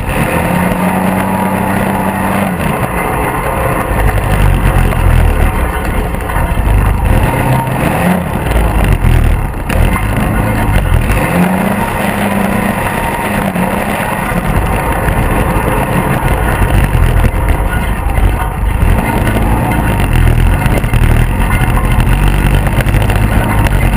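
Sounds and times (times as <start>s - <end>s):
steady rushing noise: 0.0s - 23.9s
vehicle engine running: 0.0s - 23.9s.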